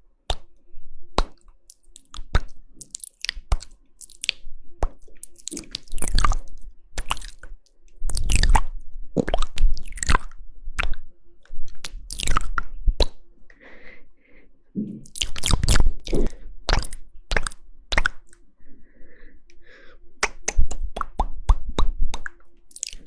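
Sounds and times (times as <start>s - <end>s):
wet mouth clicks and smacks: 0.3s - 0.6s, 1.2s - 13.2s, 14.9s - 18.4s, 20.2s - 23.0s.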